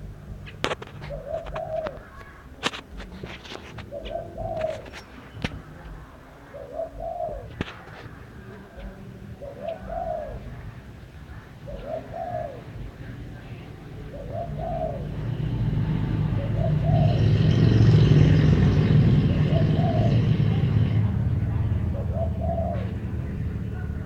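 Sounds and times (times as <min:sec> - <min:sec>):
low rumble with hiss: 0:00.0 - 0:24.0
dove cooing: 0:00.6 - 0:24.0.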